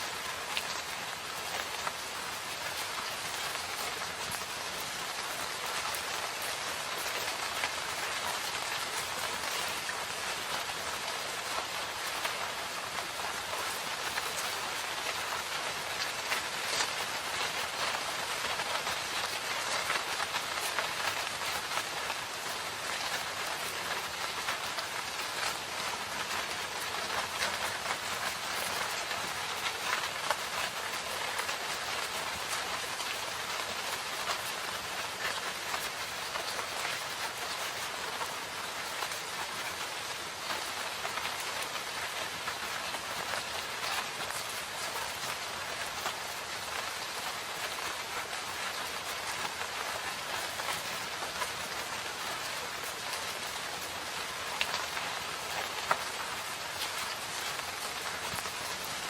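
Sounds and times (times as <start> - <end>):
raindrops ticking: 0.0 - 59.0
steady rain in a forest: 0.0 - 59.0.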